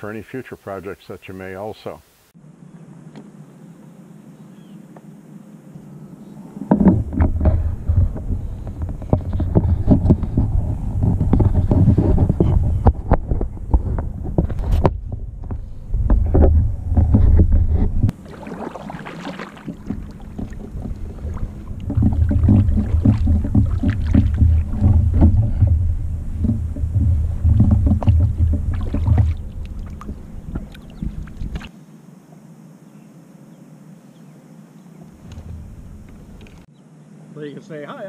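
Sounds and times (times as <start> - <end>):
low rumbling: 2.4 - 31.7, 35.2 - 36.7.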